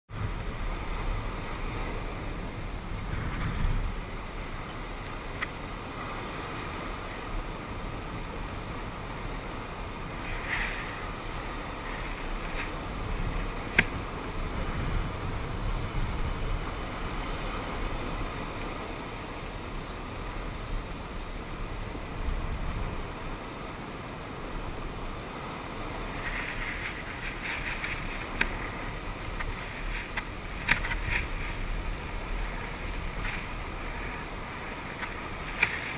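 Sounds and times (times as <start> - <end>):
ocean water washing: 0.1 - 35.9.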